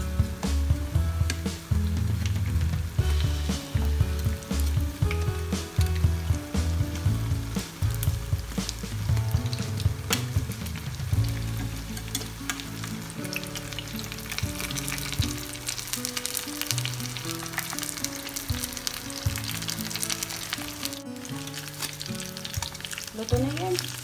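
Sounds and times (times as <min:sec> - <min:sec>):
spring rolls sizzling in oil: 0:00.0 - 0:24.0.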